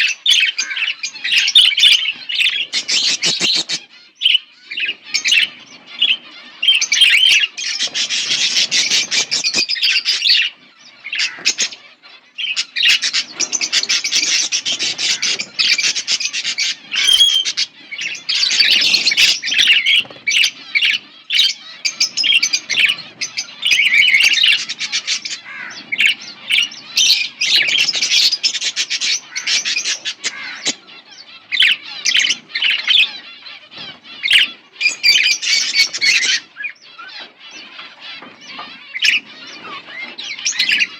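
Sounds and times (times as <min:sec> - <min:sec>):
budgerigar squawks: 0:00.0 - 0:40.9
budgerigars chirping and chattering: 0:00.0 - 0:40.9.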